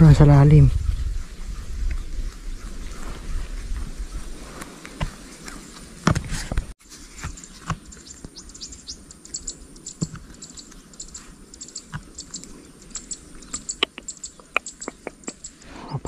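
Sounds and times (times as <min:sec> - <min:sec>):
wildlife chirping: 0:00.0 - 0:06.1, 0:07.0 - 0:16.0.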